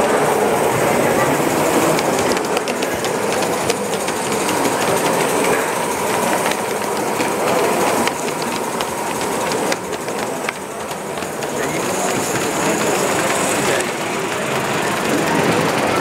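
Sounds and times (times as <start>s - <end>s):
background hubbub: 0.0s - 16.0s
model locomotive wheels clicking: 0.0s - 16.0s.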